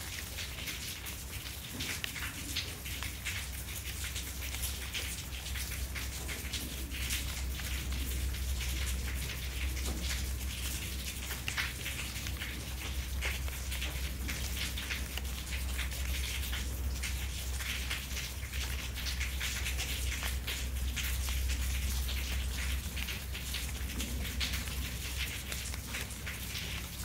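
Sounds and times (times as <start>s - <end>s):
rain pattering on leaves and pavement: 0.0s - 27.0s.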